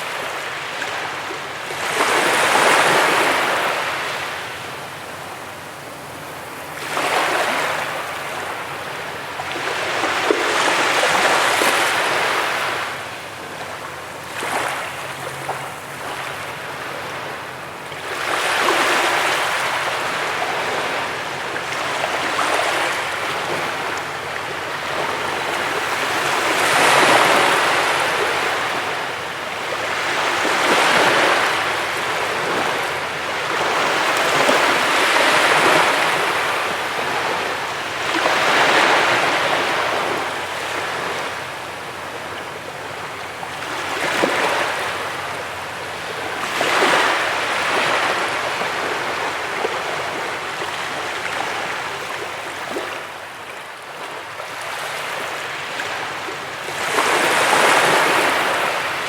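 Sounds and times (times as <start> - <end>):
ocean surf breaking on beach: 0.0 - 59.0.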